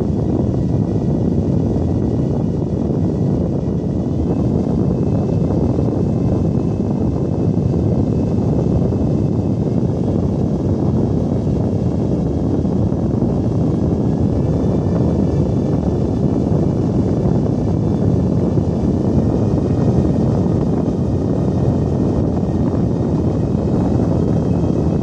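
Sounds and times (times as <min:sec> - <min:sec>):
computer fan rushing air: 0:00.0 - 0:25.0
faint fan whine: 0:00.0 - 0:25.0.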